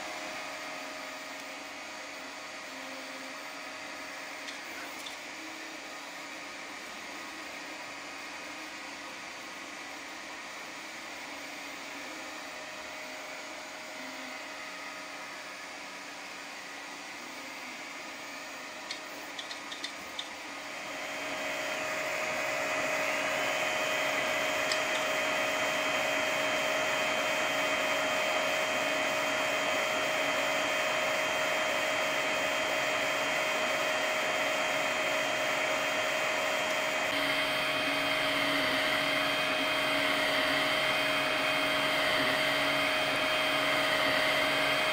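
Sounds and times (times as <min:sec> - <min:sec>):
printer motors and fan humming: 0:00.0 - 0:44.9.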